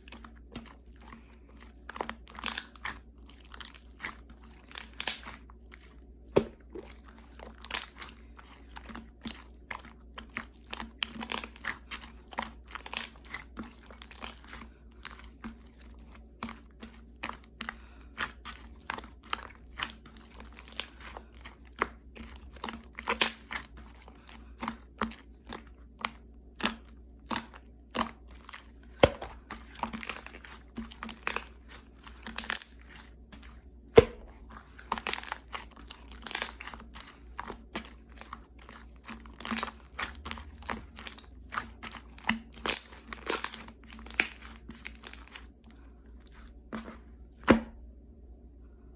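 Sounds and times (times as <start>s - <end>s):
slime squished by hand: 0.0s - 45.5s, 46.2s - 47.8s.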